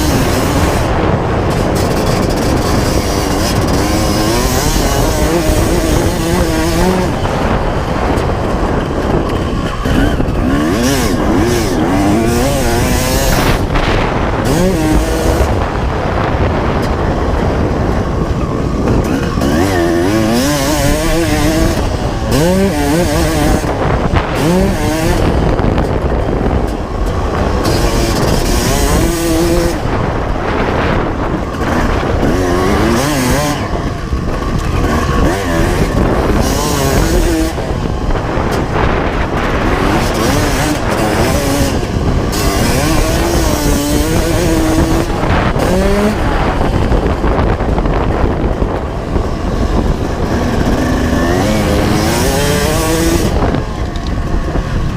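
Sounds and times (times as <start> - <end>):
motocross engine revving: 0.0 - 54.9
wind rumble on microphone: 0.0 - 54.9.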